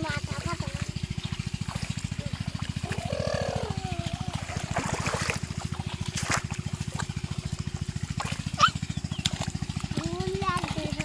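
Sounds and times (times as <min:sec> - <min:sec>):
sharp splashes: 0:00.0 - 0:11.0
trickling water: 0:00.0 - 0:11.0.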